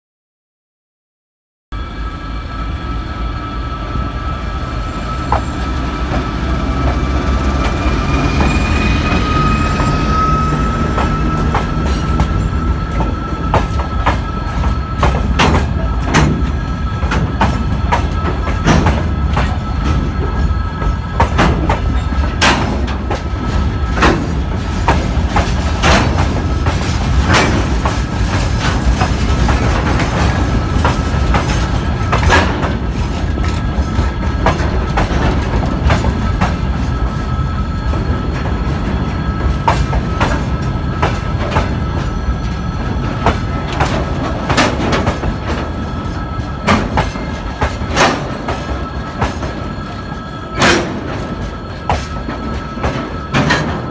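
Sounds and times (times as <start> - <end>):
freight train rumbling: 1.7 - 53.9
wheels clacking over rail joints: 5.0 - 53.9.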